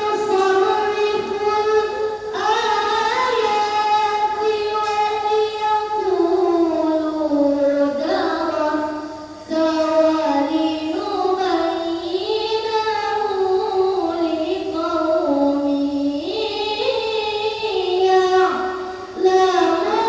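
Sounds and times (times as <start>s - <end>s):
child reciting in melodic chant: 0.0s - 20.0s.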